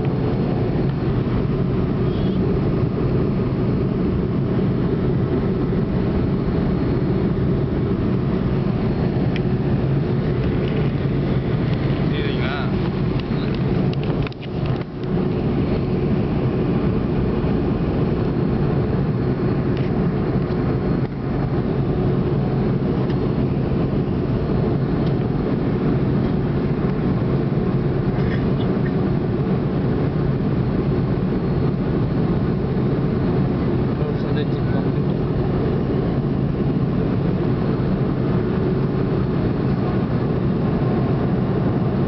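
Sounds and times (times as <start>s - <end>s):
jet engine rumble in cabin: 0.0s - 42.0s.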